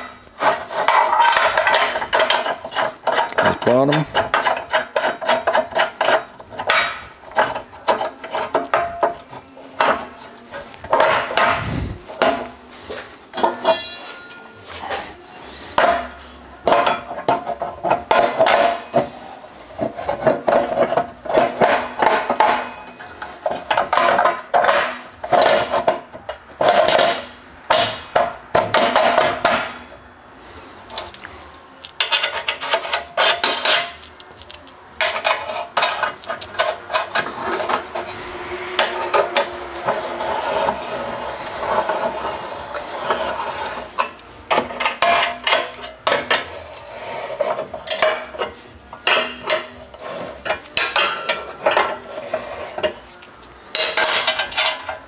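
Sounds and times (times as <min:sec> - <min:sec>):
steel plates clinking and knocking: 0:00.0 - 0:11.6, 0:13.3 - 0:14.6, 0:15.7 - 0:19.2, 0:19.8 - 0:30.0, 0:32.0 - 0:46.8, 0:47.4 - 0:53.0, 0:53.7 - 0:55.0.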